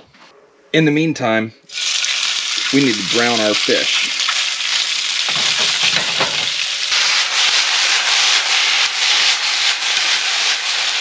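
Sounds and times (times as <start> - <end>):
fish sizzling in a skillet: 1.7 - 11.0.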